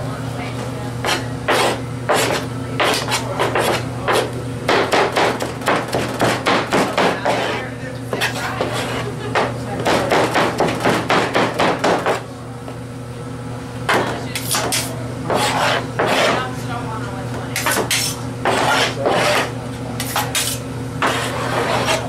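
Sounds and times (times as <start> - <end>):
knife chopping on cutting board: 1.0 - 12.2, 13.9 - 16.4, 17.6 - 22.0.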